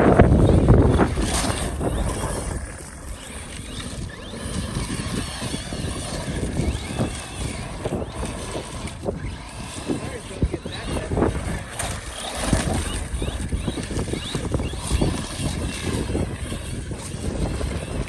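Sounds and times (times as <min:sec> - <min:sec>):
rc car driving: 0:00.0 - 0:18.0.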